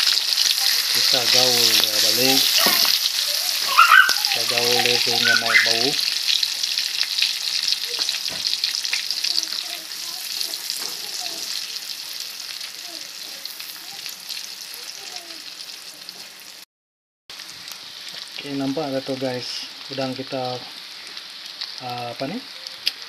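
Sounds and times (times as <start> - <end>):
food sizzling in hot oil: 0.0 - 16.7, 17.3 - 23.0.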